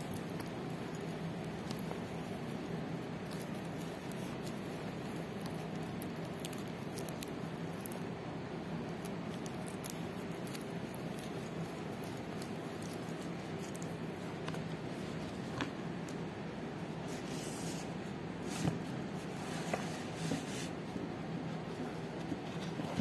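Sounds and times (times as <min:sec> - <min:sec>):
low hum and hiss: 0:00.0 - 0:23.0.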